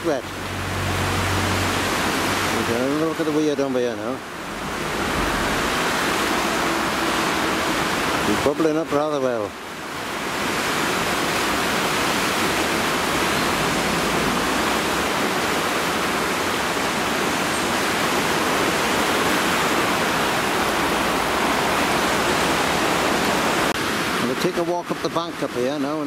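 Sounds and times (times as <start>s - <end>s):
river rushing over a weir: 0.0s - 26.0s.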